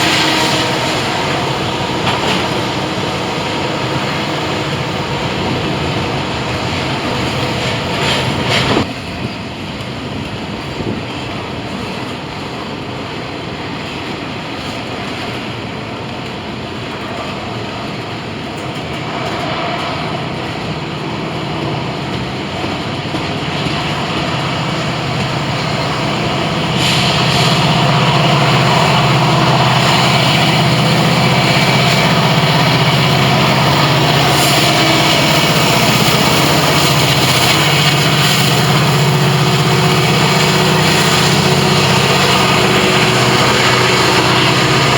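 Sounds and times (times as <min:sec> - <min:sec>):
diesel locomotive engine drone: 0:00.0 - 0:44.9.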